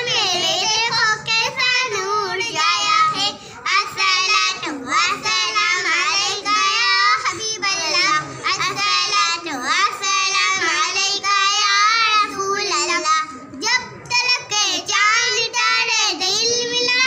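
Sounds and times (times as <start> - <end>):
girls singing together: 0.0 - 17.0.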